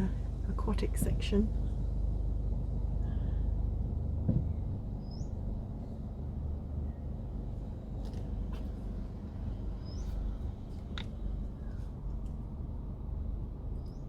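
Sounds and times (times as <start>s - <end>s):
car driving slowly: 0.0s - 13.8s.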